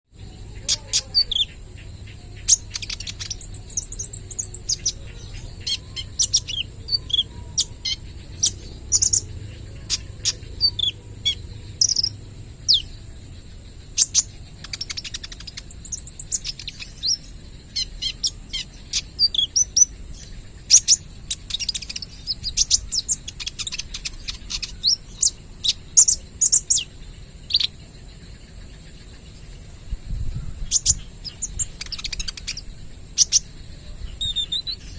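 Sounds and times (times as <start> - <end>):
bird singing high chirps: 0.1 - 34.9.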